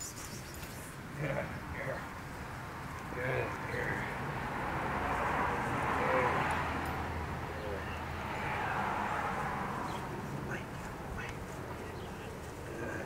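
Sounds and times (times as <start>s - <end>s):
passing vehicle: 0.0s - 13.0s.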